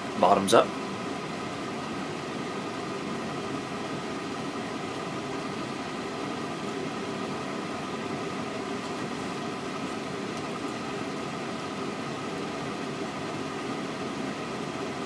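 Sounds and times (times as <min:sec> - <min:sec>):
faint hum: 0:00.0 - 0:15.0
room noise hiss: 0:00.0 - 0:15.0.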